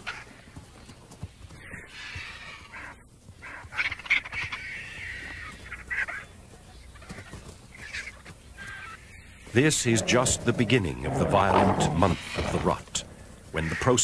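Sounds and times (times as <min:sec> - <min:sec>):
harsh bird calls: 0:01.5 - 0:14.0.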